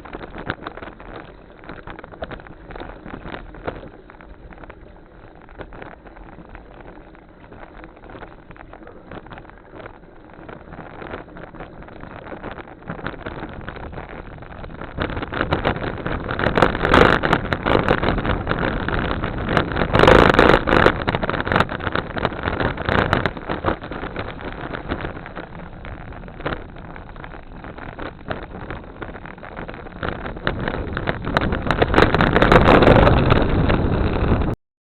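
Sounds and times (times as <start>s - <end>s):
bicycle tyre rumble: 0.0s - 34.6s
small rattles and knocks: 0.0s - 34.6s
wind rushing over microphone: 0.0s - 34.6s.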